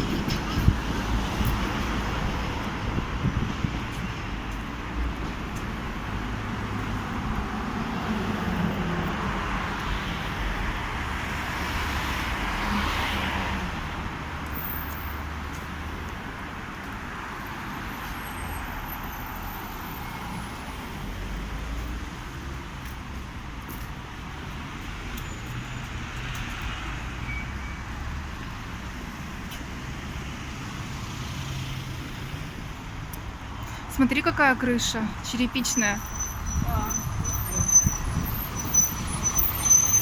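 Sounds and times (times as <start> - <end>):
cars driving past: 0.0 - 40.0.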